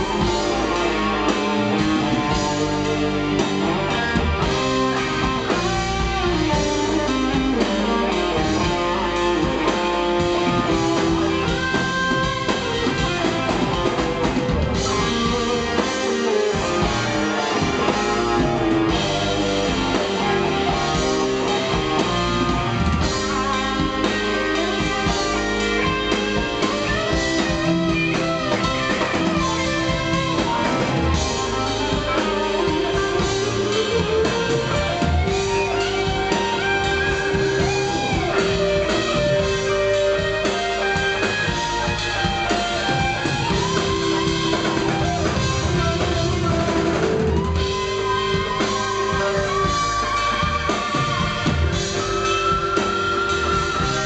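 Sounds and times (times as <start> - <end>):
drums: 0.0 - 54.0
lead guitar: 0.0 - 54.0.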